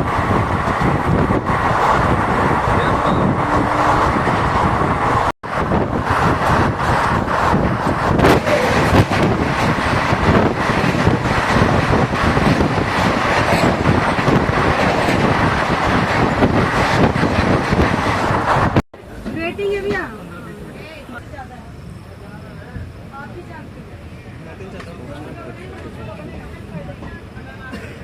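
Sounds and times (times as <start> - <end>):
train rumbling and clattering: 0.0 - 28.0.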